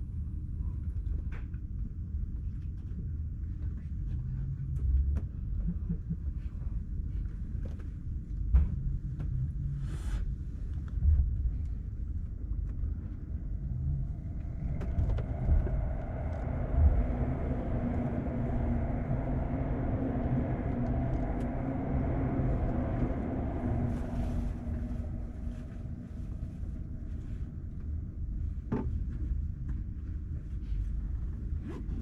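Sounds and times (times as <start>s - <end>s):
train rumble: 0.0s - 32.0s
multi-tone hum: 2.1s - 32.0s.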